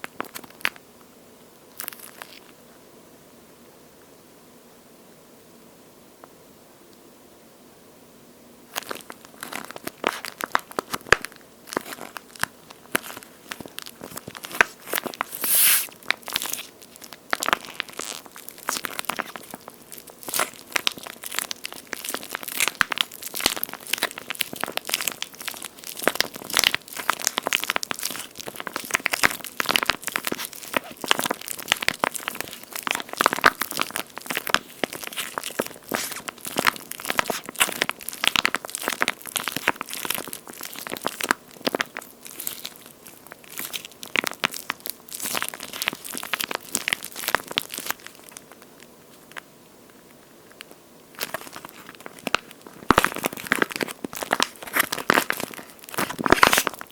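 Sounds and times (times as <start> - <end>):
squishy toy crackling: 0.0 - 0.8, 1.7 - 2.6, 8.7 - 49.5, 50.4 - 56.9.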